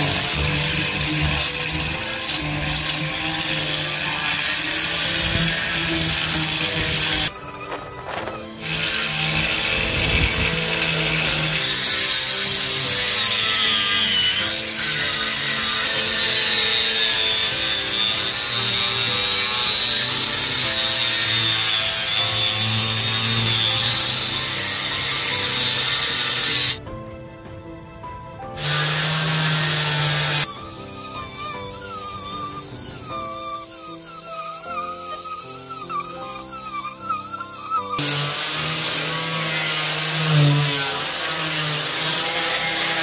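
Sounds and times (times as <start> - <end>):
angle grinder sanding wood: 0.0 - 26.8, 28.6 - 43.0.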